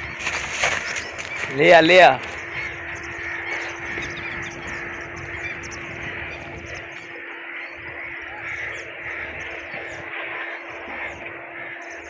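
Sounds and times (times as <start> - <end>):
faint steady hum: 0.0 - 12.0
outdoor background noise: 0.0 - 12.0
small birds chirping: 0.0 - 12.0.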